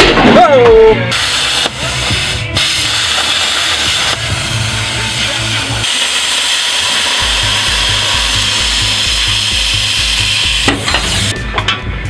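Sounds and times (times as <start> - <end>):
background music with beat: 0.0 - 12.0
power tool cutting metal: 1.1 - 11.3.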